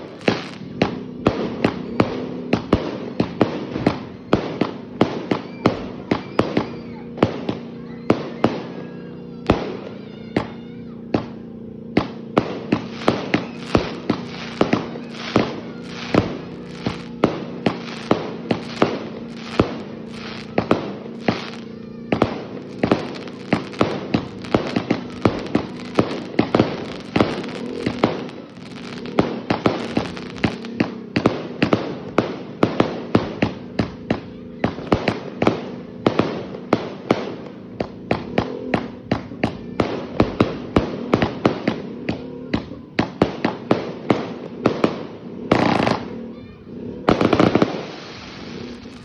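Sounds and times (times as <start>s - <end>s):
fireworks cake firing sharp reports: 0.0s - 49.0s.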